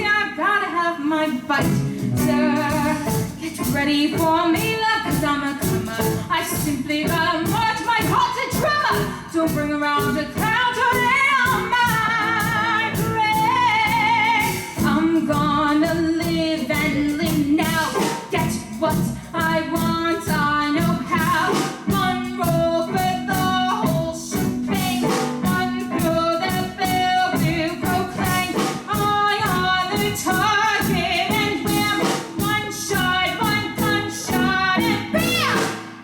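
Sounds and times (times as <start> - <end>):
live band playing show tune: 1.1 - 36.0.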